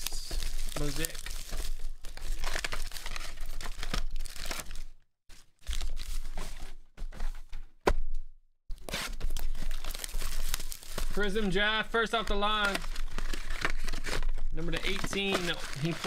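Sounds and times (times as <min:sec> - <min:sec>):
plastic wrap crinkling and tearing: 0:00.0 - 0:06.3, 0:08.8 - 0:16.0.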